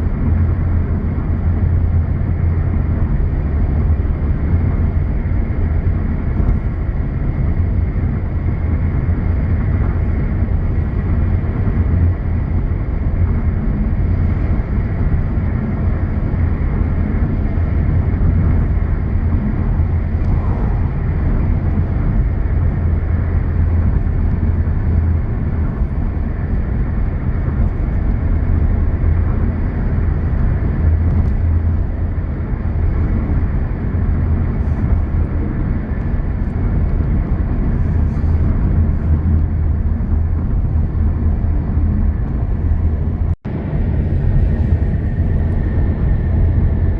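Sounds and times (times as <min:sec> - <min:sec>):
car road and wind noise: 0:00.0 - 0:46.9.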